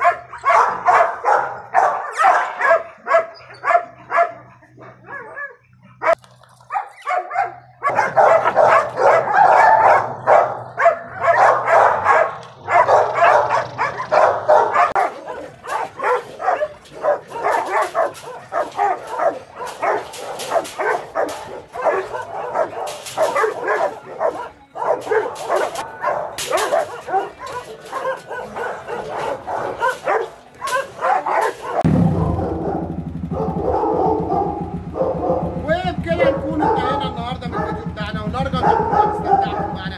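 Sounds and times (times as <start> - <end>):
dogs barking rapidly: 0.0 - 39.9.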